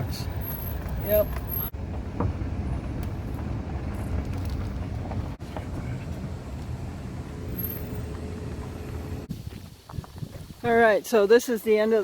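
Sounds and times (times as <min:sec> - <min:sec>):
car engine and road rumble: 0:00.0 - 0:10.8.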